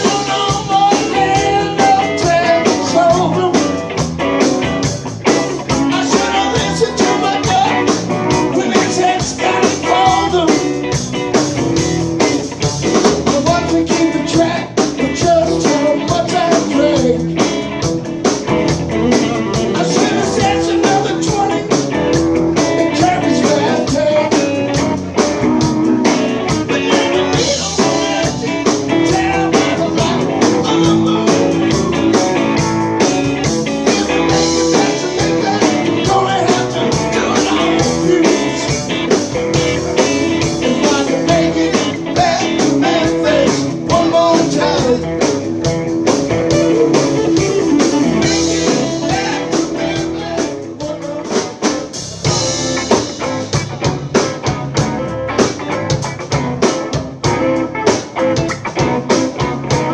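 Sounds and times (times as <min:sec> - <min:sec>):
blues-rock band playing: 0:00.0 - 0:59.9.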